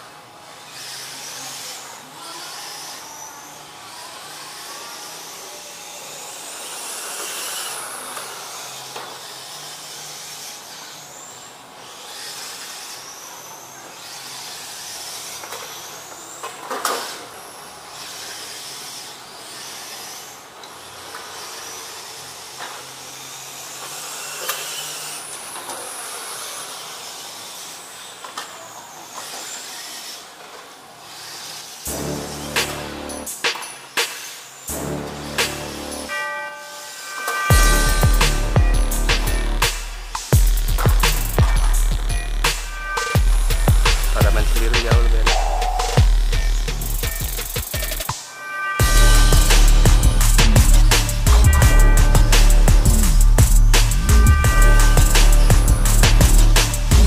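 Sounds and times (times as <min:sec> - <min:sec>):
rc car motor whine: 0:00.0 - 0:57.0.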